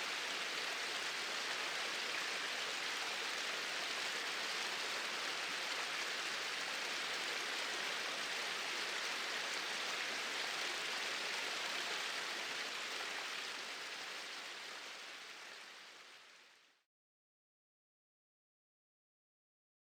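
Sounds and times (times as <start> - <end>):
small waterfall splashing: 0.0 - 16.7.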